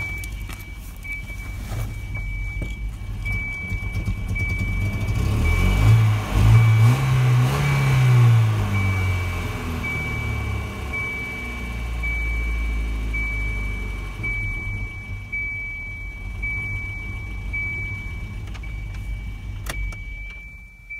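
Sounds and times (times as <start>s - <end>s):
car engine revving and idling: 0.0s - 20.9s
high beep: 0.0s - 20.9s.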